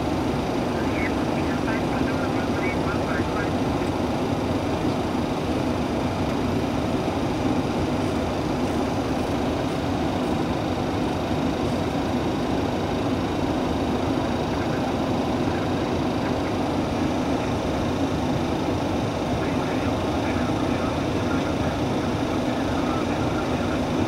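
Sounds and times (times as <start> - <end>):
engine and air-conditioning noise: 0.0 - 24.0.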